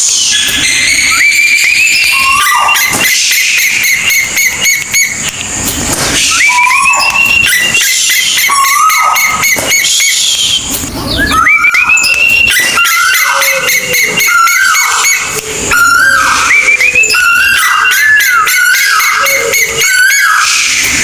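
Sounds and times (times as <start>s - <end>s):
bird calling whistled notes: 0.0s - 5.4s, 6.1s - 21.0s.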